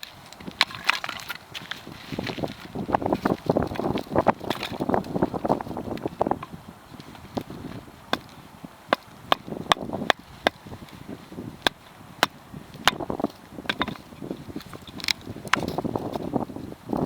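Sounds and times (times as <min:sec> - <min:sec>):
hatchet chopping wood: 0:00.0 - 0:01.4, 0:03.2 - 0:10.8, 0:11.6 - 0:16.3.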